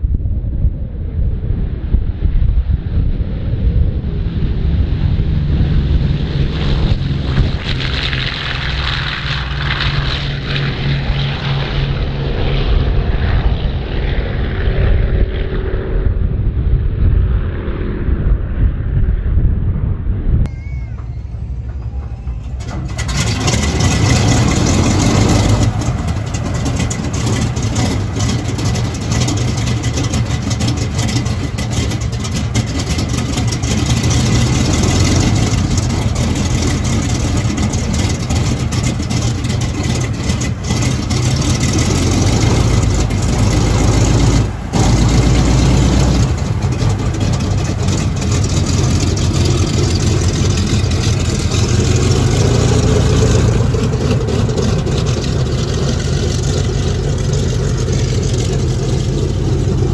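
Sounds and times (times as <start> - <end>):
radial aircraft engine idling: 4.3 - 13.4, 20.5 - 59.9.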